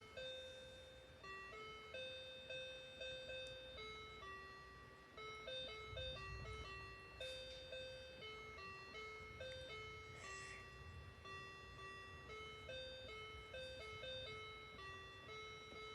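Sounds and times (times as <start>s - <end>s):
electronic keyboard melody: 0.0s - 15.9s.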